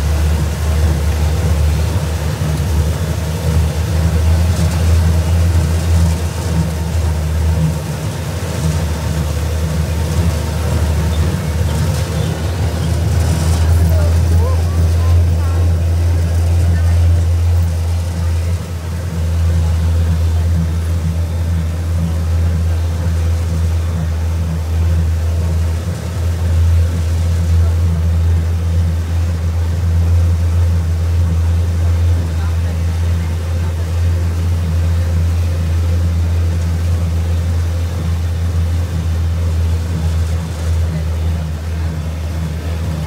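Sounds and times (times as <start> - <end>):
ride train low drone: 0.0 - 43.0.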